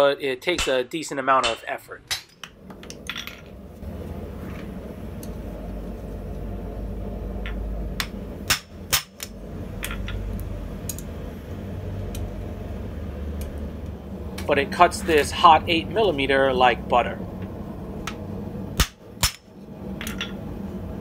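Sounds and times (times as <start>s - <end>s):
steady low hum: 2.2s - 21.0s.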